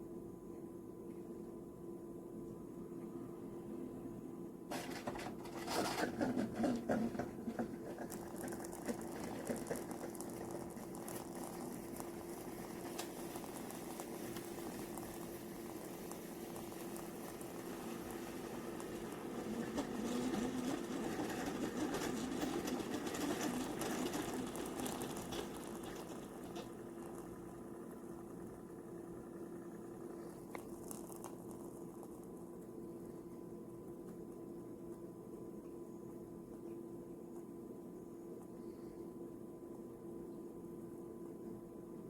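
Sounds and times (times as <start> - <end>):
coffee maker humming: 0.0 - 42.0.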